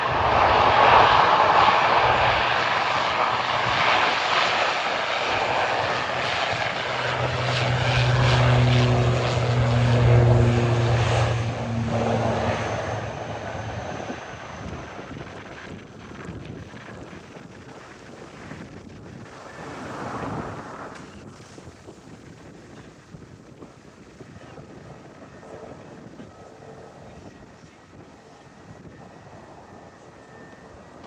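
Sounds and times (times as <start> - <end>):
turboprop airliner taking off: 0.0 - 31.0.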